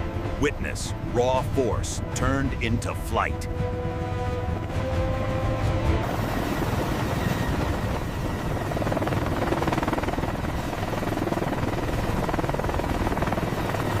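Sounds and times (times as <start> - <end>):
helicopter rotor and turbine noise: 0.0 - 14.0.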